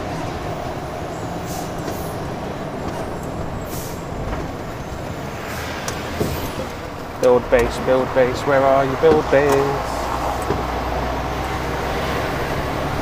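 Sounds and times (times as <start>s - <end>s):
lorry engine and road rumble: 0.0s - 13.0s.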